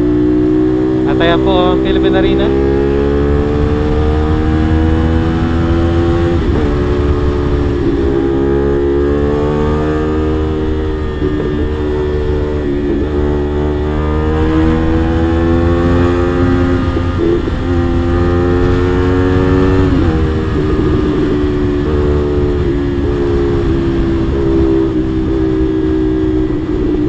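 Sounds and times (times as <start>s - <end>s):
motorcycle engine at speed: 0.0s - 27.0s
wind and road noise: 0.0s - 27.0s.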